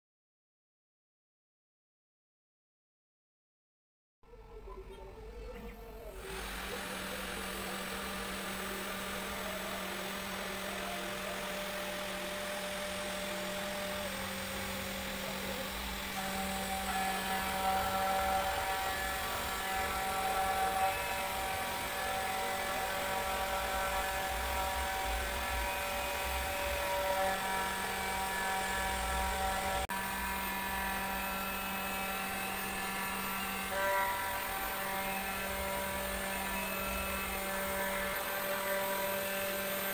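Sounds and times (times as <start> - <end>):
router spindle running: 5.8 - 39.9.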